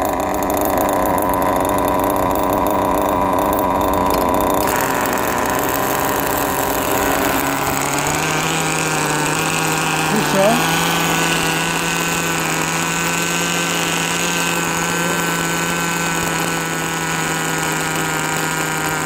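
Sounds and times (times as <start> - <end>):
small nitro engine idling roughly: 0.0 - 19.0.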